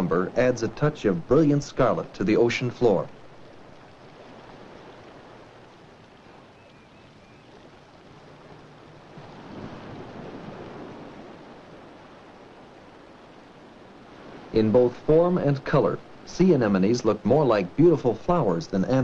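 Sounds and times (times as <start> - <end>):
surf washing: 0.0 - 19.0.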